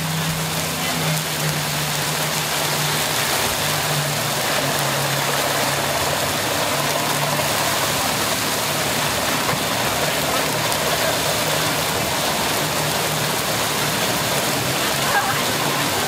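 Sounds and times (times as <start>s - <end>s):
boat motor running: 0.0s - 16.0s
heavy rain pouring: 0.0s - 16.0s.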